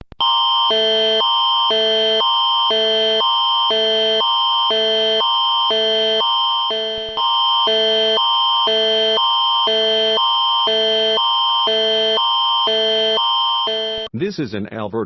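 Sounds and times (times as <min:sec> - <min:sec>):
constant high tone: 0:00.2 - 0:14.2
alternating chords of steady tones: 0:00.7 - 0:14.1.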